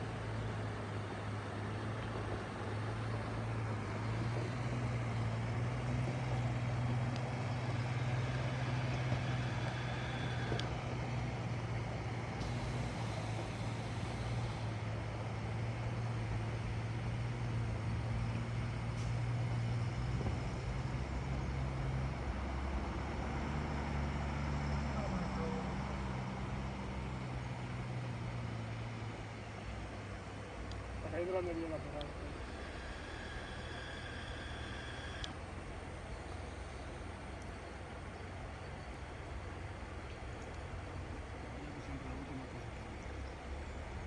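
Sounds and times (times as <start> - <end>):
engine droning: 0.0 - 44.0.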